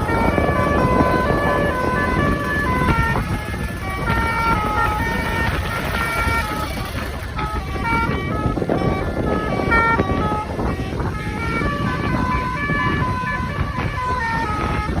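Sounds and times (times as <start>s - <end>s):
multi-tone bus horn melody: 0.0s - 15.0s.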